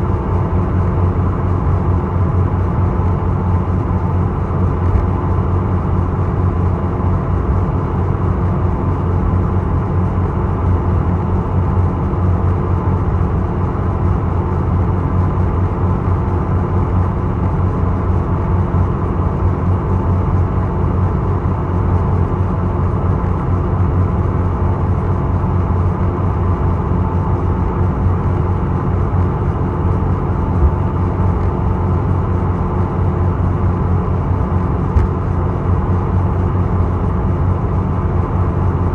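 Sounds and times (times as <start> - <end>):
ship engine drone: 0.0 - 38.9.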